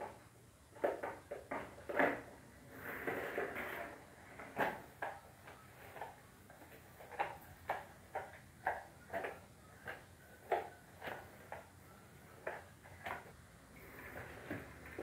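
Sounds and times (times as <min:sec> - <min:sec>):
mop knocking and swishing on tiles: 0:00.8 - 0:11.8, 0:12.4 - 0:15.0
spin mop whirring in bucket: 0:00.8 - 0:15.0.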